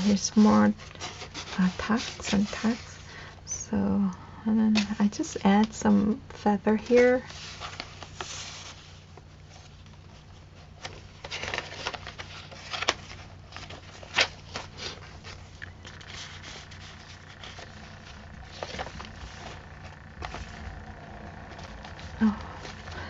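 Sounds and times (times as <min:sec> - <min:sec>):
paper rustling: 0:00.0 - 0:03.3, 0:06.7 - 0:23.0
steady low hum: 0:00.0 - 0:23.0.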